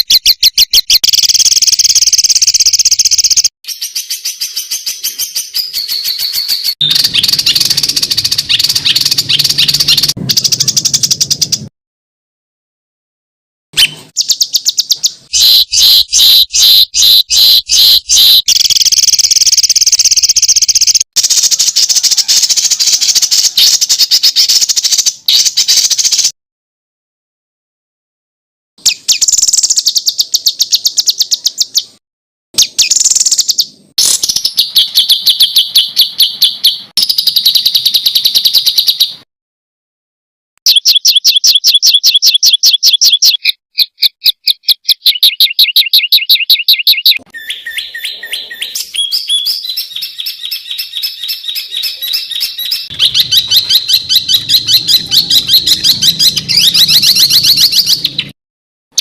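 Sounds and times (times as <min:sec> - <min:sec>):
songbirds chattering song: 0:00.0 - 0:11.7, 0:13.8 - 0:26.3, 0:28.8 - 0:32.0, 0:32.6 - 0:39.2, 0:40.7 - 0:58.4.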